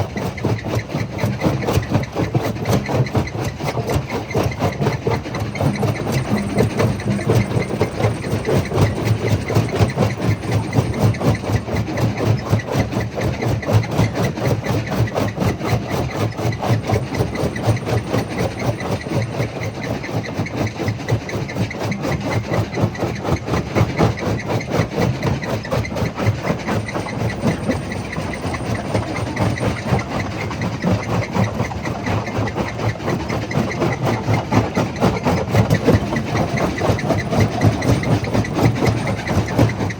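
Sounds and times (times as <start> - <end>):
jaw crusher rumbling: 0.5 - 19.8, 24.9 - 39.9.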